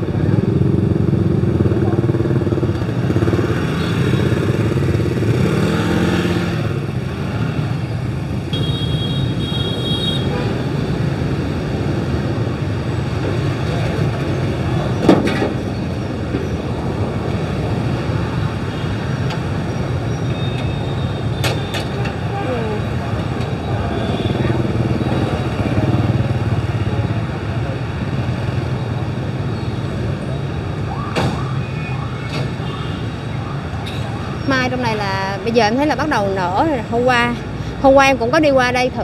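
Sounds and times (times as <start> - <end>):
motorbikes passing: 0.0 - 39.0
street traffic: 0.0 - 39.0.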